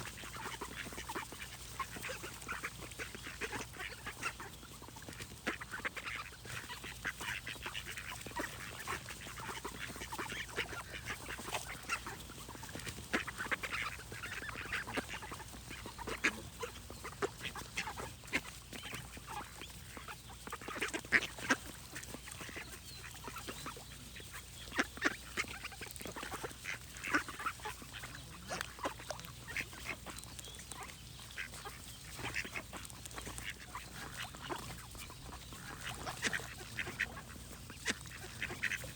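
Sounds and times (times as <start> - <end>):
ducks quacking: 0.0 - 38.9.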